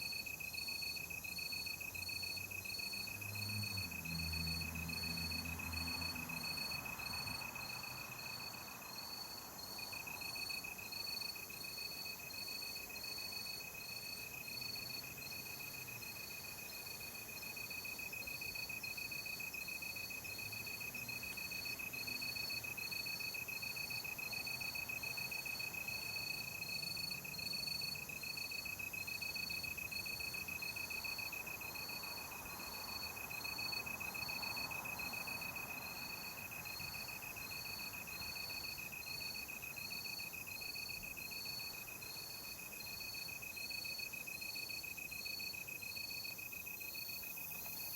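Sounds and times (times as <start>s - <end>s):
insect chirping: 0.0s - 47.9s
insect high steady trill: 0.0s - 47.9s.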